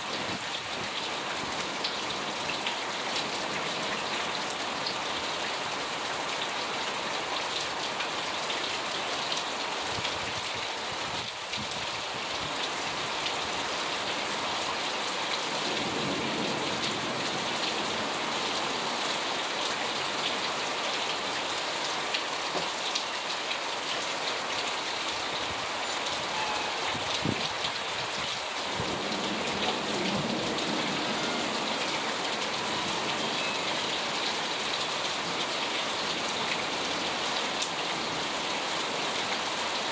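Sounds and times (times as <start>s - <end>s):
heavy rain on cars and pavement: 0.0s - 39.9s.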